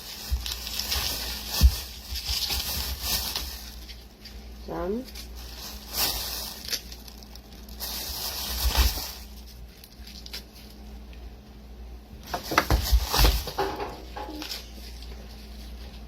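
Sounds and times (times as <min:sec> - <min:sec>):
bok choy rustling and crackling: 0:00.0 - 0:11.3, 0:12.2 - 0:16.0.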